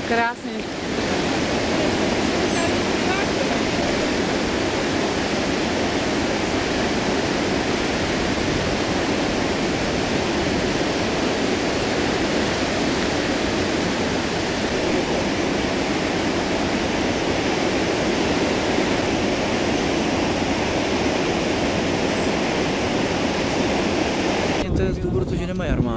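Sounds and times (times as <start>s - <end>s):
waterfall rushing: 0.0s - 24.7s.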